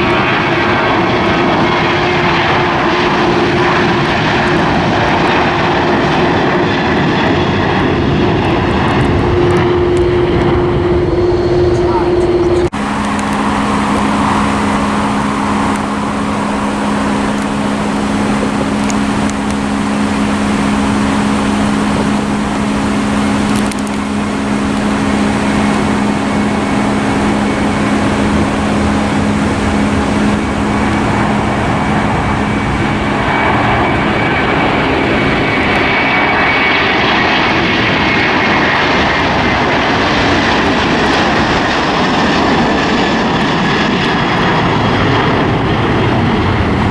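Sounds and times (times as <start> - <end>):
airliner engines running: 0.0 - 46.9
high whine falling in pitch: 0.0 - 46.9.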